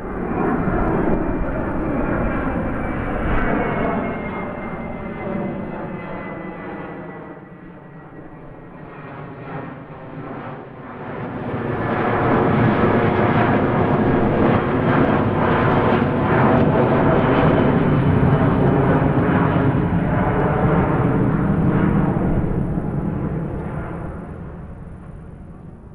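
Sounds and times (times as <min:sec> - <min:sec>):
airplane engine flying past: 0:00.0 - 0:25.9.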